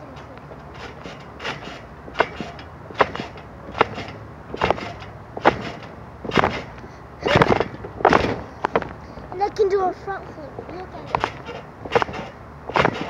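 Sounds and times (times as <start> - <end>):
trampoline landing thumps: 0.0 - 9.0, 11.0 - 13.0.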